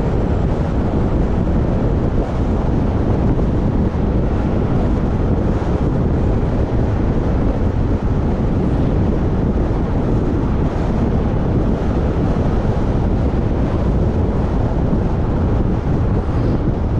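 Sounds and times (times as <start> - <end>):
wind rushing over microphone: 0.0 - 16.9.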